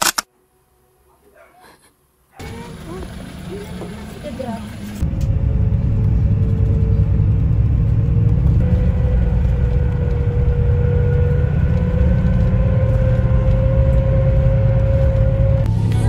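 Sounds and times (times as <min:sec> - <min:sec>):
airliner engines rumbling in cabin: 0:02.4 - 0:16.0.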